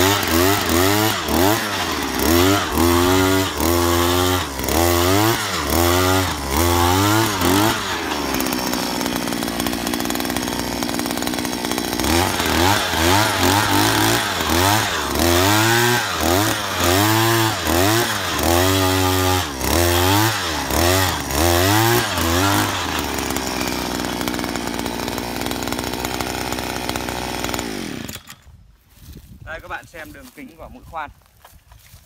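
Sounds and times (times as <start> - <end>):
earth auger engine revving: 0.0 - 28.5.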